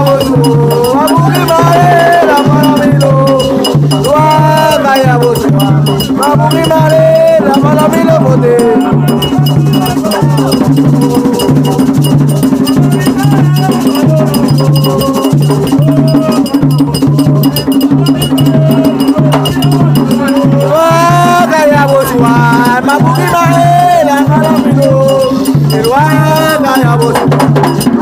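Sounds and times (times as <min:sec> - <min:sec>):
hand drums beating: 0:00.0 - 0:28.0
metallic ringing percussion: 0:00.0 - 0:28.0
voices singing: 0:00.0 - 0:28.0.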